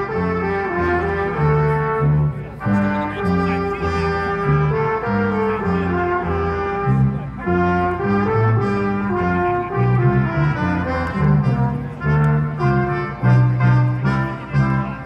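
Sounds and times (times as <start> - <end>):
brass band playing: 0.0 - 15.0
moving bass line: 0.0 - 15.0.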